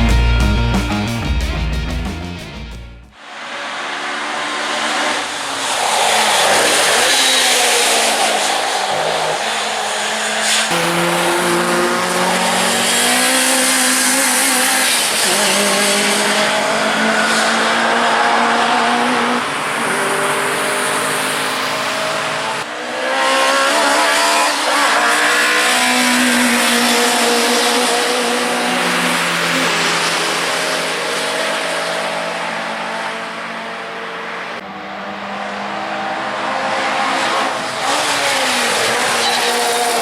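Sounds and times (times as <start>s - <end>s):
race car engines revving: 3.1s - 40.0s.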